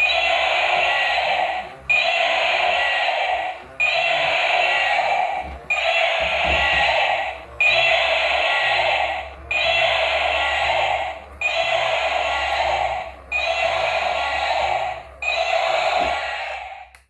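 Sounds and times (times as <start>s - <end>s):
toy vehicle electronic sound effect: 0.0s - 17.0s.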